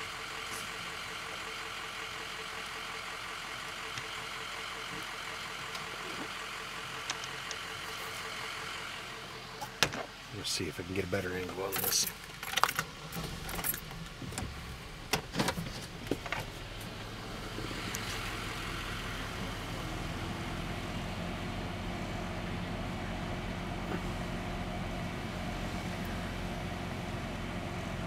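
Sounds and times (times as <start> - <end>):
car engine hum: 0.0 - 28.0
road noise on wet pavement: 0.0 - 28.0.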